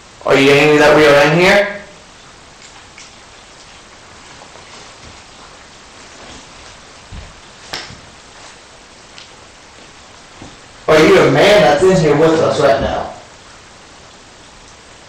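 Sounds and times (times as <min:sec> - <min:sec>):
room tone hiss: 0:00.0 - 0:15.0.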